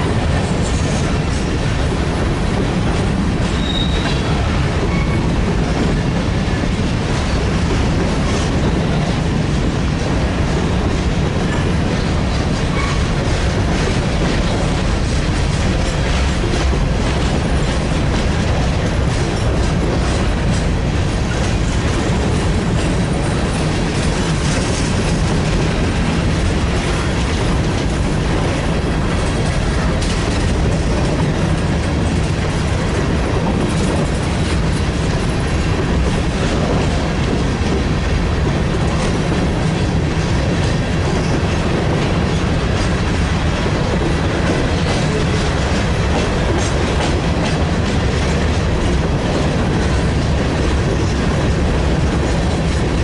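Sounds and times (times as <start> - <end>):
freight train rumbling past: 0.0 - 53.0
wheels clacking over rail joints: 0.0 - 53.0.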